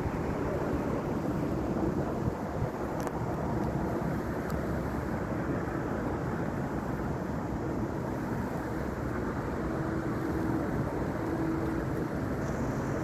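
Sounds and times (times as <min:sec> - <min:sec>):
low rumbling wind: 0:00.0 - 0:13.0.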